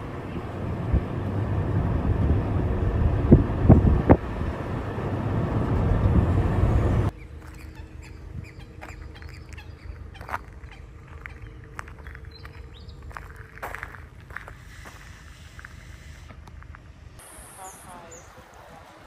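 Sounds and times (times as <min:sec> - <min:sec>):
low rushing outdoor noise: 0:00.0 - 0:19.0.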